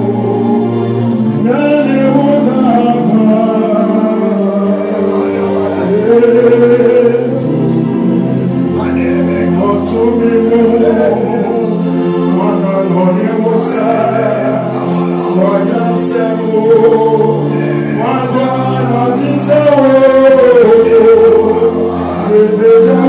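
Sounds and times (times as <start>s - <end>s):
man singing into a microphone: 0.0s - 23.0s
sustained instrumental backing: 0.0s - 23.0s.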